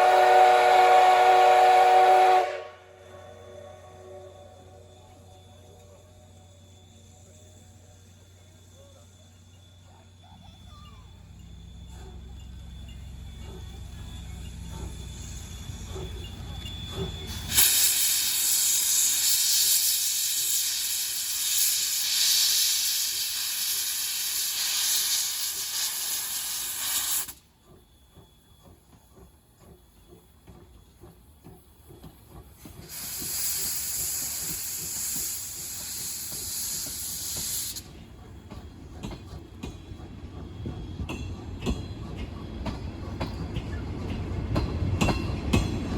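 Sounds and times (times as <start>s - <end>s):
steam locomotive hissing steam: 0.0s - 45.9s.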